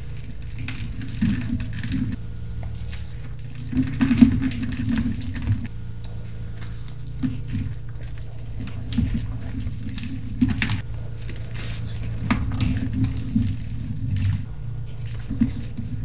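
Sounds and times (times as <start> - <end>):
chalk crunching and crumbling: 0.0 - 16.0
steady low hum: 0.0 - 16.0.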